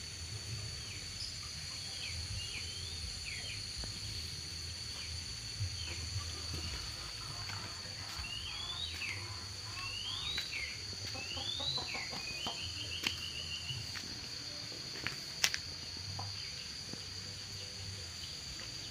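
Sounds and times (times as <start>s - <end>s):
high-pitched insect drone: 0.0s - 18.9s.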